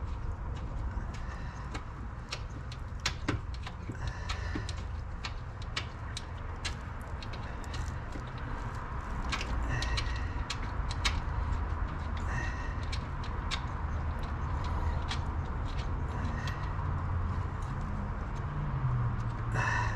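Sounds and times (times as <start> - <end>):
steady low rumble: 0.0 - 19.9
tool clicks and taps on engine parts: 0.6 - 19.8.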